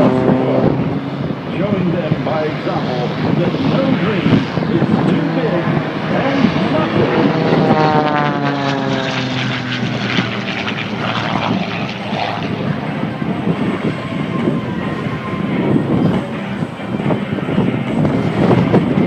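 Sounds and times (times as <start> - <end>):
airplane engine and propeller: 0.0 - 19.0.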